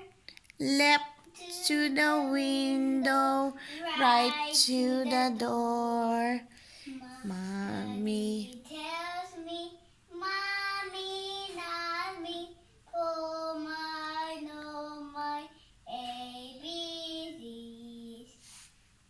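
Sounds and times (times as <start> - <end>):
girl singing: 0.0 - 18.4.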